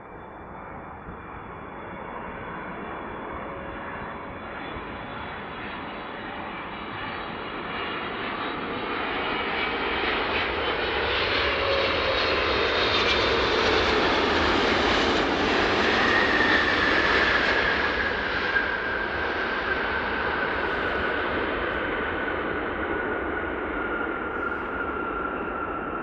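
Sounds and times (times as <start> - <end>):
jet engine whine dropping in pitch: 0.0 - 26.0
jet airliner engine passing: 0.1 - 26.0.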